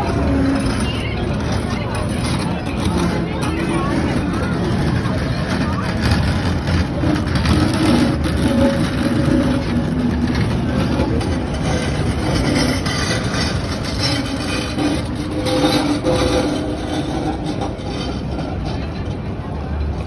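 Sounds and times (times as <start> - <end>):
railroad cars rumbling and rattling: 0.0 - 20.0.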